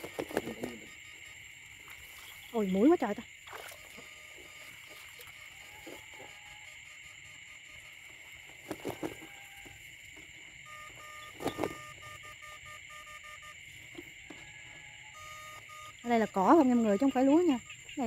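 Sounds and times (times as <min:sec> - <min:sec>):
frog calling: 0:00.0 - 0:18.0
insects trilling: 0:00.0 - 0:18.0.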